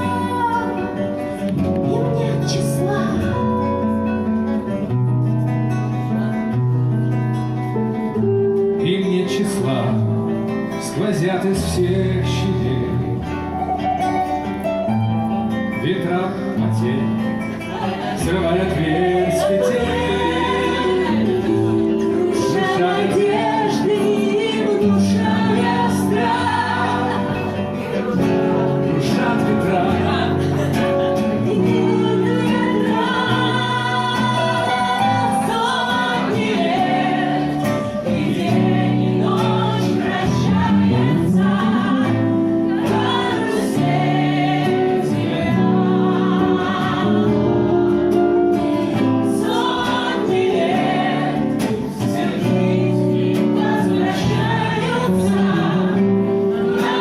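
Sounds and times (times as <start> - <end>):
song with singing voices: 0.0 - 5.5, 7.6 - 57.0.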